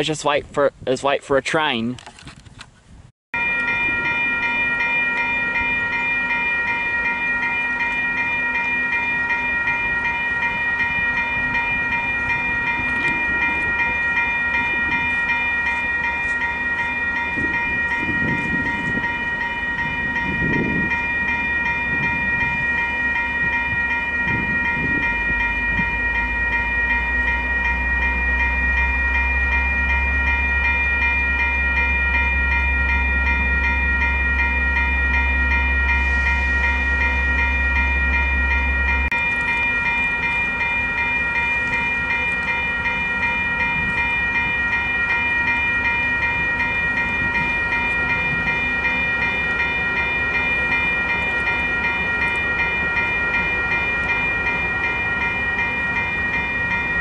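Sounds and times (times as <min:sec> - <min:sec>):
level crossing bells ringing: 0:03.4 - 0:57.0.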